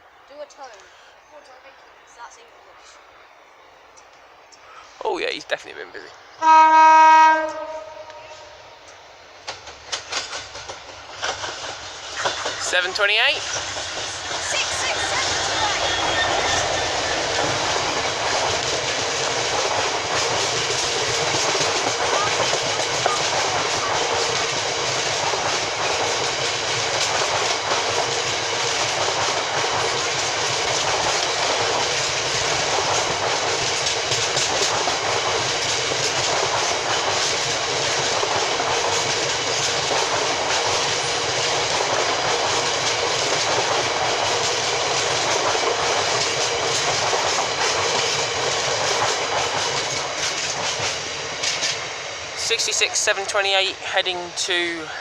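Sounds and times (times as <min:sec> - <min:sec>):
freight train wheels clattering: 0:08.9 - 0:55.0.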